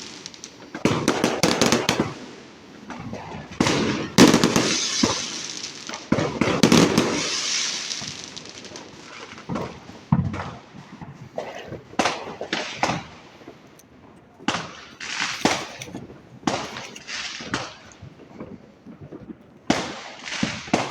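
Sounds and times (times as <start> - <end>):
firework bangs: 0.0 - 20.9
firework crackling: 0.0 - 20.9.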